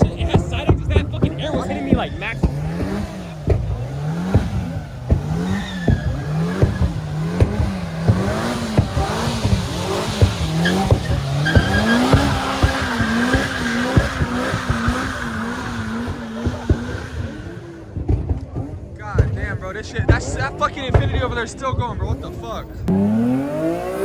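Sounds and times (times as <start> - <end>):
sharp pops: 0.0 - 22.2
tyres squealing: 0.0 - 22.9
car engine revving: 0.0 - 24.0.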